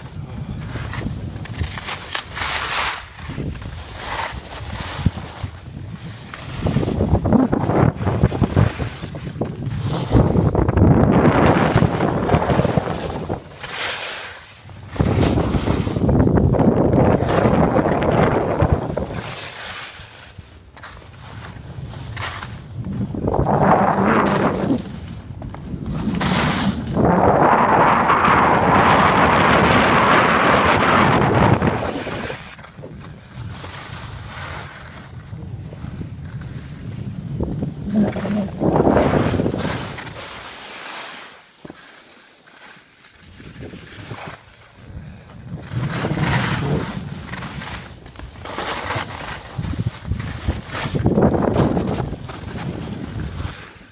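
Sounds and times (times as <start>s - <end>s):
skis scraping over snow: 0.0s - 53.9s
wind buffeting microphone: 3.1s - 13.6s, 14.6s - 19.4s, 21.1s - 40.2s, 43.3s - 53.9s.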